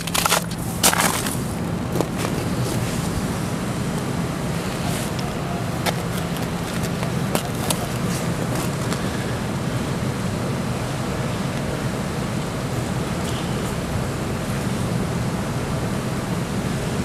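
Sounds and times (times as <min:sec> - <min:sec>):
low engine hum: 0:00.0 - 0:17.0
street noise: 0:00.0 - 0:17.0.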